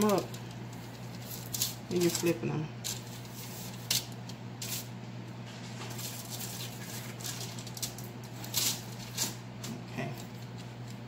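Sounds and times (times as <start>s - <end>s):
aluminium foil rustling: 0.0s - 11.0s.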